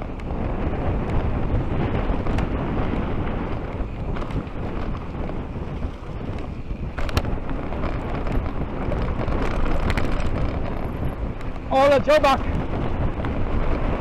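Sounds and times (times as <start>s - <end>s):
bike rattling over bumps: 0.0s - 14.0s
tyres rolling over dirt trail: 0.0s - 14.0s
wind buffeting microphone: 0.0s - 14.0s.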